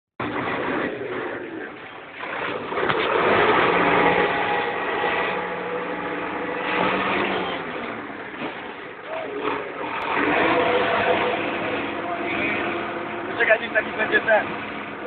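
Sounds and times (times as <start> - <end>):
vehicle engine running: 0.2 - 15.0.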